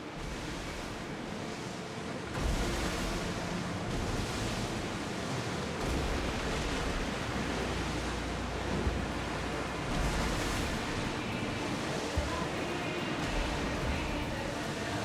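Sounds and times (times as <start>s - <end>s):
sea waves rushing: 0.0s - 15.0s
wind rumbling on microphone: 0.0s - 15.0s.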